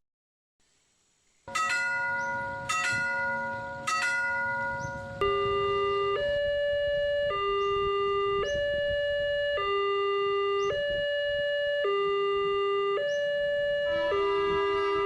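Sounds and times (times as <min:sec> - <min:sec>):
two-tone hi-lo siren: 0:01.5 - 0:15.0.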